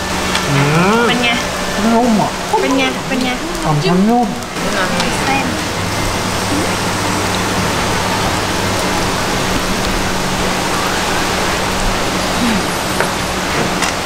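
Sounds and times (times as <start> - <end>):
meat sizzling on grill pan: 0.1 - 12.2.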